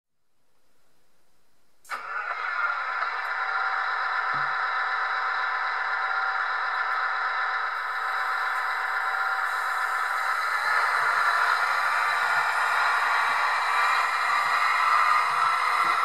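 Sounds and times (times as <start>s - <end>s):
simulated diesel engine idling: 2.0s - 16.0s.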